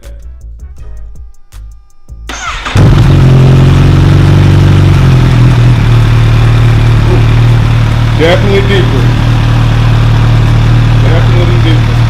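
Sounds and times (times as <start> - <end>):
motorcycle engine starting and idling: 2.3 - 12.0.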